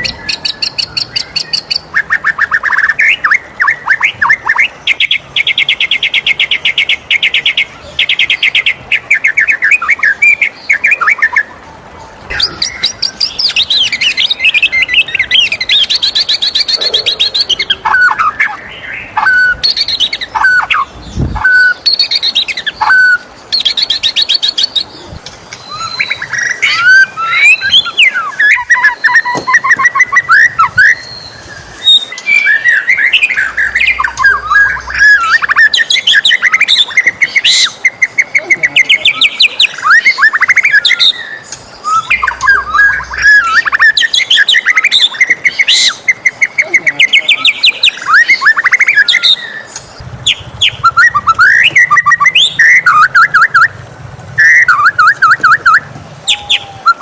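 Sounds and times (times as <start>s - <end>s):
songbird singing whistles and trills: 0.0s - 11.5s, 12.3s - 53.8s, 54.4s - 57.0s.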